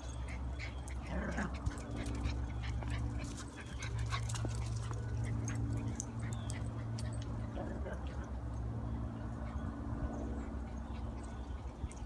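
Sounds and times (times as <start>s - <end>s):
dogs running ticks and rustles: 0.0s - 12.0s.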